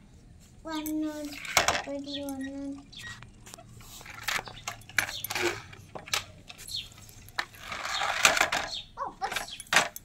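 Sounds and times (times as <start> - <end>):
plastic toys clattering on board: 0.9 - 2.9, 3.8 - 10.0
toy scraping along board: 1.0 - 6.0, 6.6 - 9.6.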